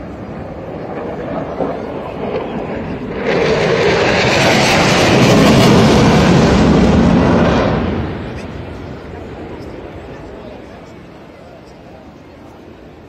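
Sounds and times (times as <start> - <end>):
jet engines flying past: 0.0 - 13.0.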